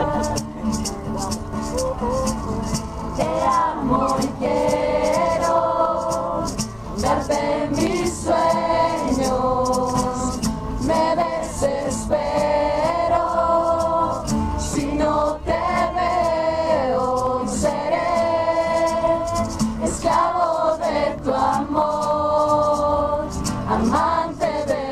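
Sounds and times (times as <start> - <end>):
voices singing together: 0.0 - 24.9.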